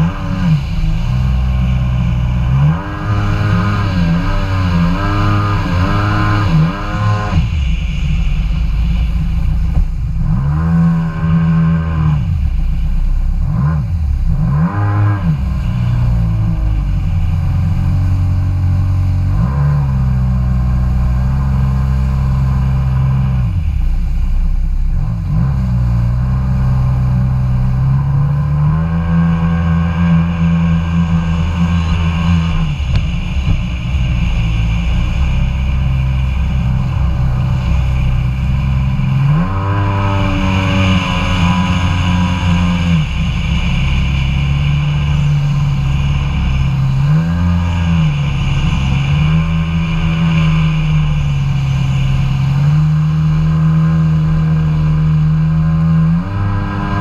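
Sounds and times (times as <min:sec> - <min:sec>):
jet ski engine revving: 0:00.0 - 0:57.0.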